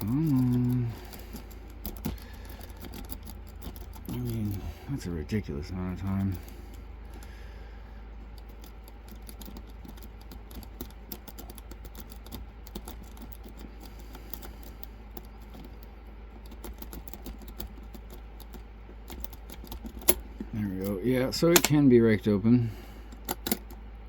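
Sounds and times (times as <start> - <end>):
lock pick clicking and scratching: 0.0 - 7.4, 8.2 - 21.8, 23.1 - 23.9.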